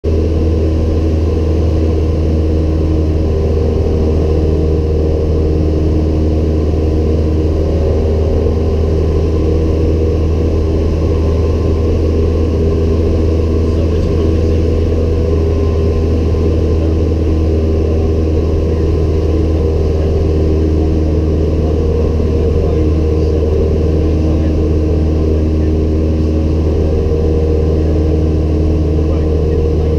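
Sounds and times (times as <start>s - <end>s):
light aircraft engine in cabin: 0.1s - 29.9s.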